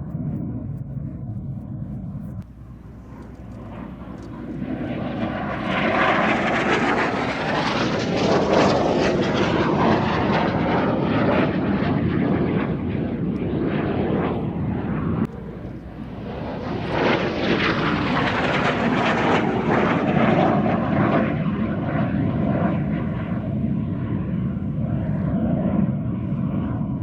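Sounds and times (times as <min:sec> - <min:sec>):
aircraft engine roar passing: 0:00.0 - 0:27.0.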